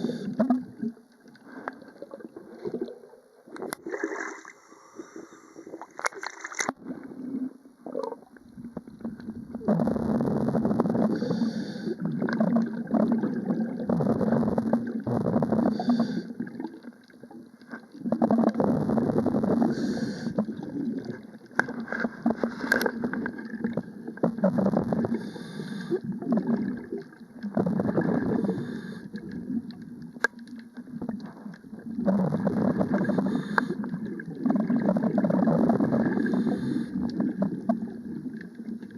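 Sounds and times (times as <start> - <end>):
water gurgling and bubbling: 0.0 - 38.9.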